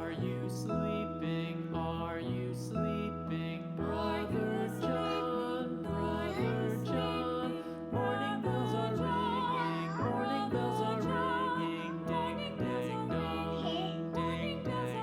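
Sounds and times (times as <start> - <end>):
slow gentle background music: 0.0 - 15.0.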